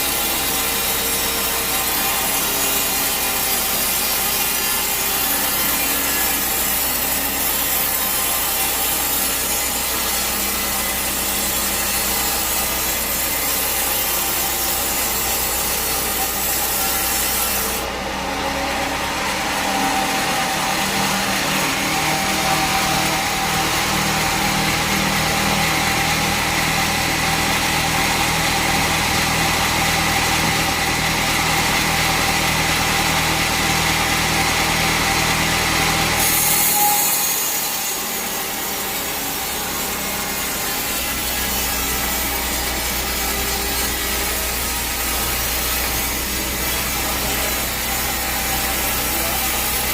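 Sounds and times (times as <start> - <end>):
bandsaw rasping through log: 0.0 - 49.9
sawmill motor hum: 0.0 - 49.9.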